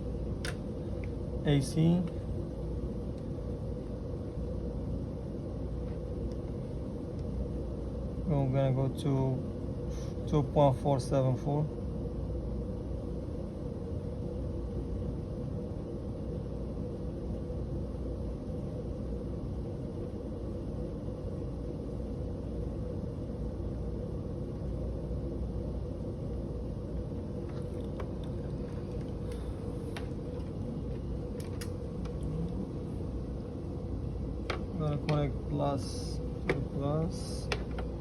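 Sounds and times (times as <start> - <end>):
low room rumble and hum: 0.0 - 38.0.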